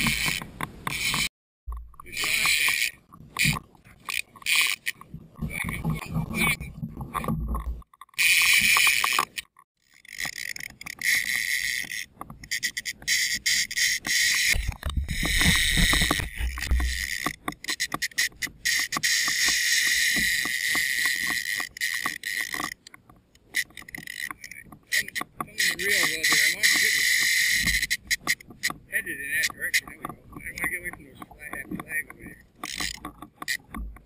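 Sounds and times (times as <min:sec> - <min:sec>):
water lapping against kayak hull: 0:00.0 - 0:34.0.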